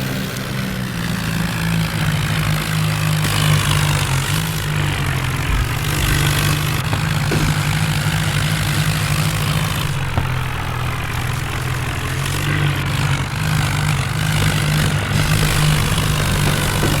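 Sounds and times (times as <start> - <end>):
tractor engine running loudly: 0.0 - 17.0.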